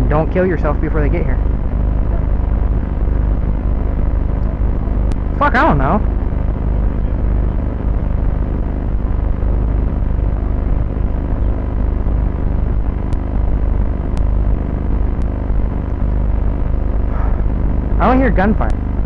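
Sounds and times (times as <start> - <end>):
low microphone rumble: 0.0 - 19.0.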